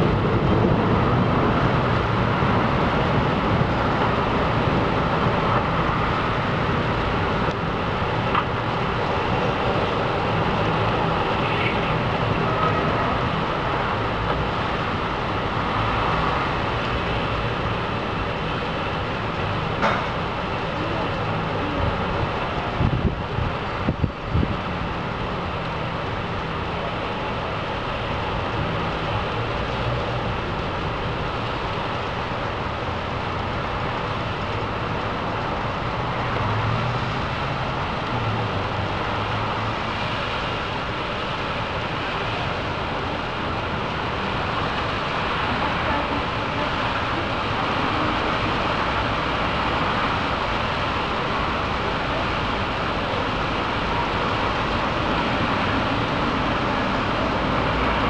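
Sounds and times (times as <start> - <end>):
heavy rain downpour: 0.0 - 58.0
traffic on wet streets: 0.0 - 58.0.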